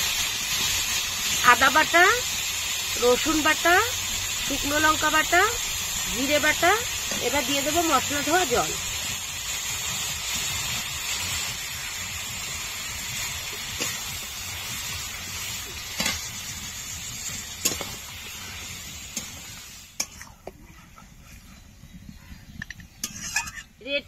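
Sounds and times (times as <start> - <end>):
meat sizzling in a pot: 0.0 - 20.8, 22.0 - 24.0.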